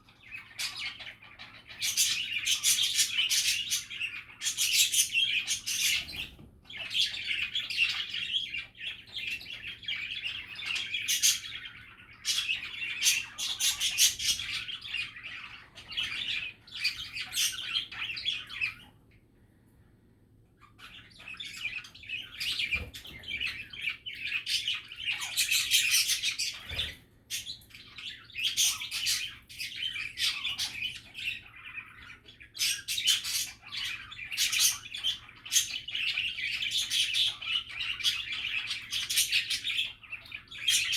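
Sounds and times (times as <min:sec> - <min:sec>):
budgerigars chattering: 0:00.0 - 0:19.0, 0:20.6 - 0:40.9.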